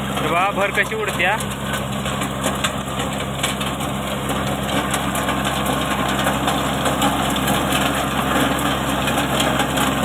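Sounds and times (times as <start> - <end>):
rotavator churning soil: 0.0 - 10.0
tractor diesel engine under load: 0.0 - 10.0.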